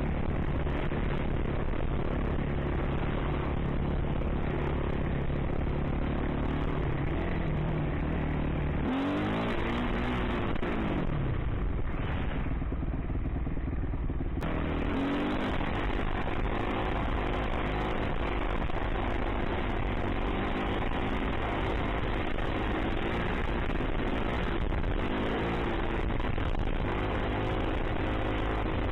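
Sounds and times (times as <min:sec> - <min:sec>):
dirt bike engine revving: 0:00.0 - 0:12.8, 0:14.4 - 0:28.9.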